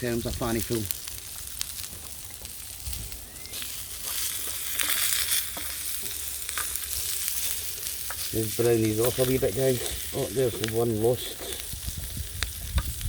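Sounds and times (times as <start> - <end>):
onion sizzling in a pan: 0.0 - 13.0.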